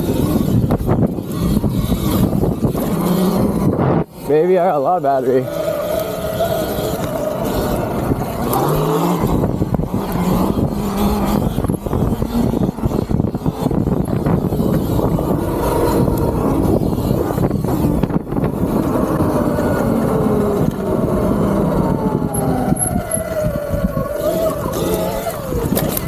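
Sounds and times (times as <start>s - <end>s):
electric motor whine: 0.0s - 26.0s
wind buffeting microphone: 0.0s - 26.0s.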